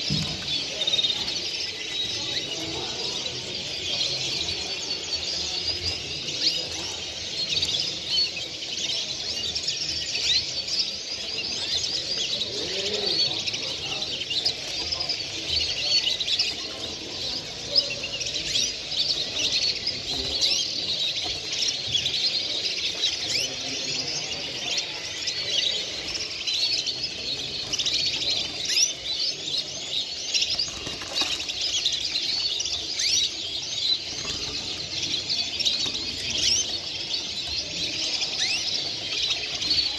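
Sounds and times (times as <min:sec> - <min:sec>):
caged songbirds chirping: 0:00.0 - 0:39.9.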